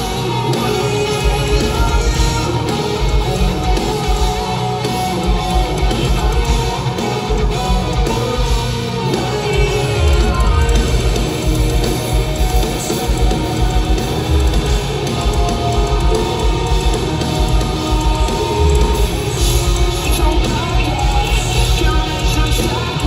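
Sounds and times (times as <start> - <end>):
bass guitar: 0.0 - 23.0
electric guitars: 0.0 - 23.0.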